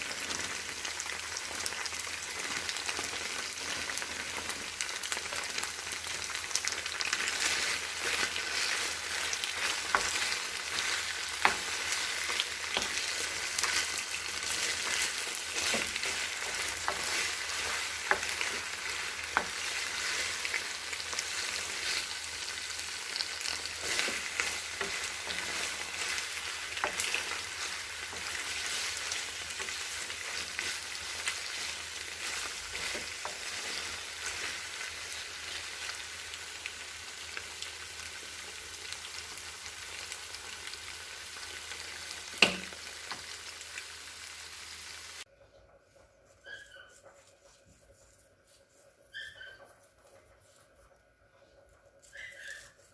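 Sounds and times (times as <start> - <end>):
food sizzling in a frying pan: 0.0 - 45.3.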